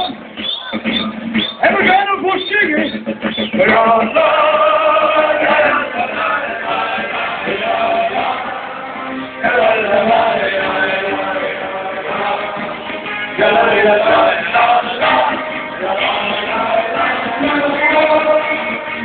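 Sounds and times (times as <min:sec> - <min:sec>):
music: 0:00.0 - 0:19.0
group of voices singing: 0:03.3 - 0:19.0.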